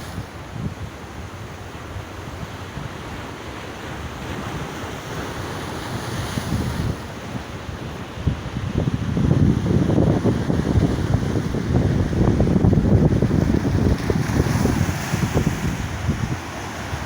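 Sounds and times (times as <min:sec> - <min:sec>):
wind gusting on microphone: 0:00.0 - 0:03.2, 0:03.8 - 0:17.0
waves breaking against rocks: 0:03.0 - 0:17.0.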